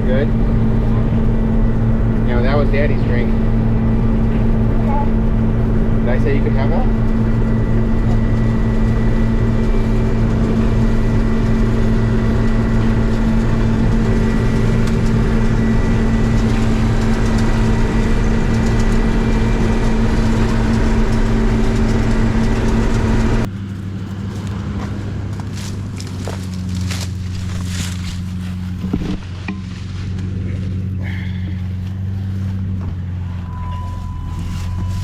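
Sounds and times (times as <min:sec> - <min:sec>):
combine harvester droning: 0:00.0 - 0:35.0.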